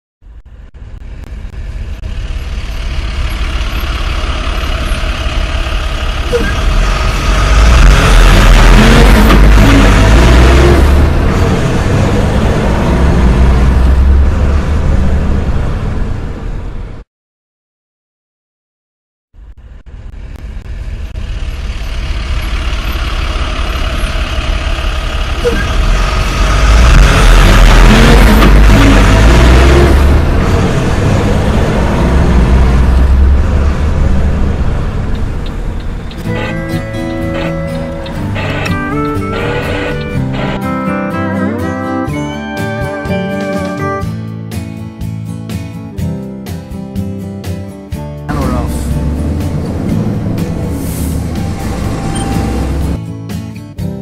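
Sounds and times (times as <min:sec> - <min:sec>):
heavy truck engines running: 0:00.2 - 0:17.0, 0:19.4 - 0:46.2, 0:47.0 - 0:53.6.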